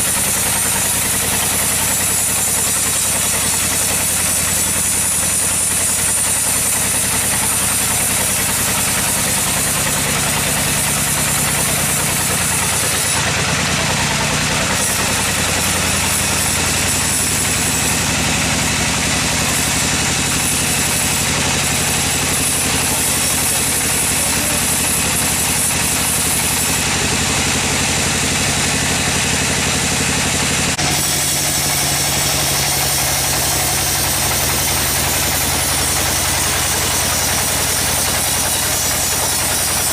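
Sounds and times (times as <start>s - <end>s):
machinery engine drone: 0.0s - 39.9s.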